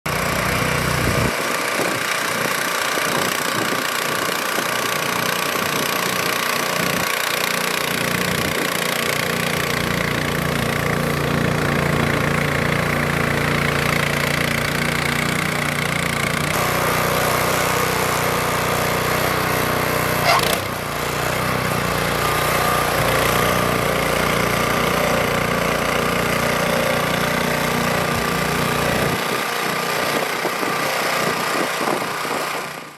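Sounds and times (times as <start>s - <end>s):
snow blower engine running: 0.1s - 32.9s.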